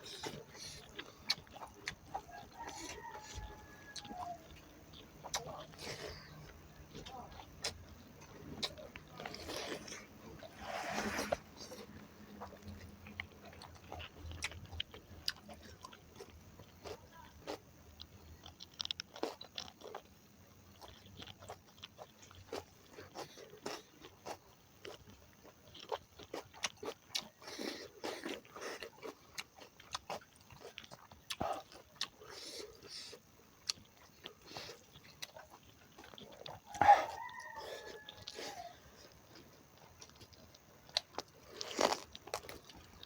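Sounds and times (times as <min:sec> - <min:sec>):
person chewing crunchy food: 0:00.0 - 0:43.0.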